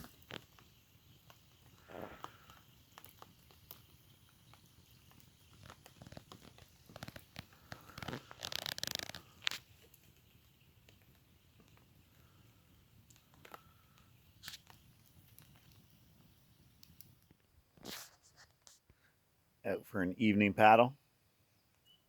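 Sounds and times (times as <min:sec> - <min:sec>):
campfire crackling: 0:00.0 - 0:19.2.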